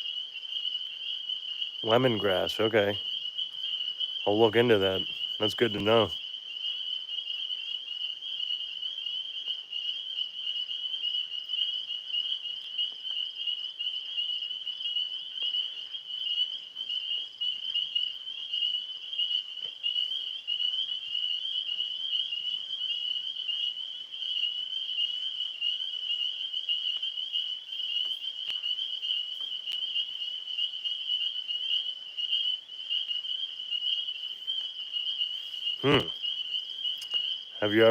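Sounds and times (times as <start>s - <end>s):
tree frogs and insects trilling: 0.0s - 37.9s.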